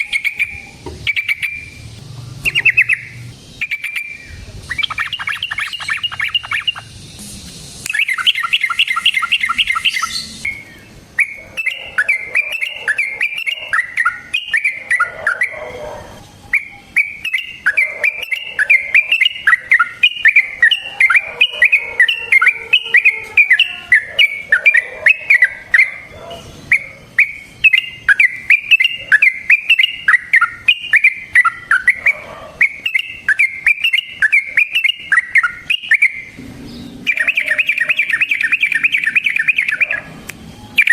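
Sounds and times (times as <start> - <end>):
bulbul chattering song: 0.0 - 40.9.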